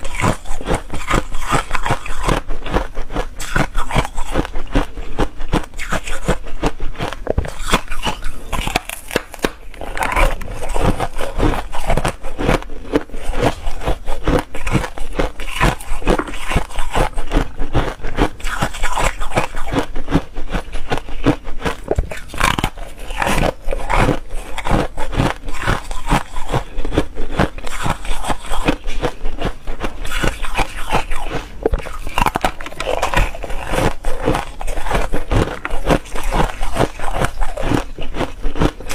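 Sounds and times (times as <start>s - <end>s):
crunching and biting ice: 0.0s - 38.9s.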